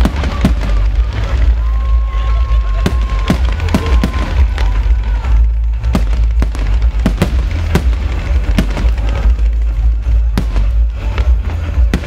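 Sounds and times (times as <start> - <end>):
constant deep rumble: 0.0 - 12.0
fireworks bursting: 0.0 - 12.0.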